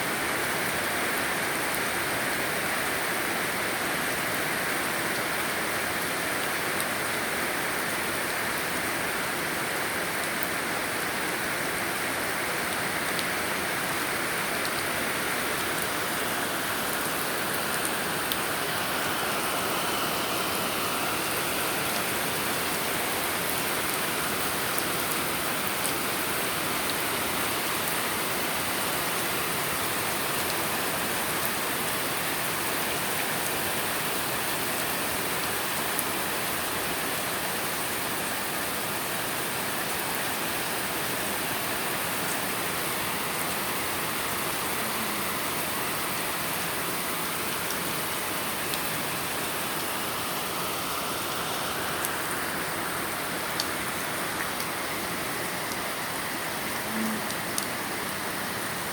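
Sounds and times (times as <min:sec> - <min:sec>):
heavy rain pouring: 0:00.0 - 0:58.9.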